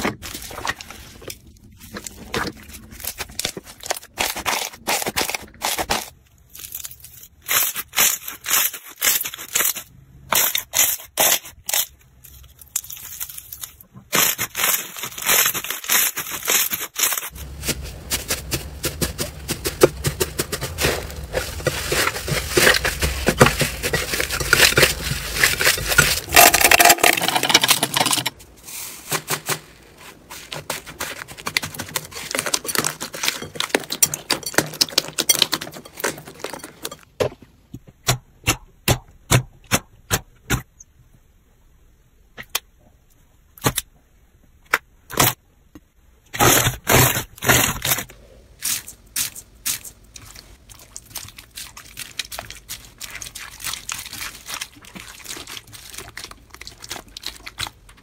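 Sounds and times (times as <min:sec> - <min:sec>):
slime crackling and squishing: 0:00.0 - 0:37.0, 0:46.4 - 0:58.0.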